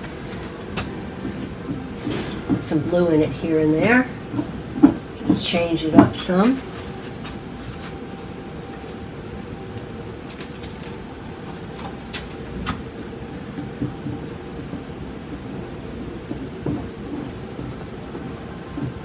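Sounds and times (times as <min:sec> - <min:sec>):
faint hum: 0:00.0 - 0:19.0
low background rumble: 0:00.0 - 0:19.0.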